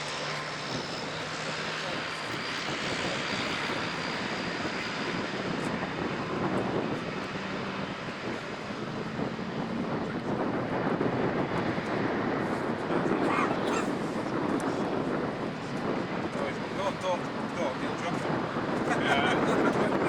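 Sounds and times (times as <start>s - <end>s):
aircraft engines passing: 0.0s - 20.0s.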